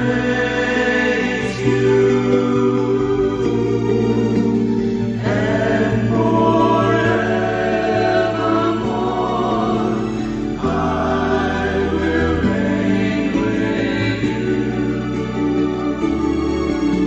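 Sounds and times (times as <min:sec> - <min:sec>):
choir singing gospel song: 0:00.0 - 0:17.0.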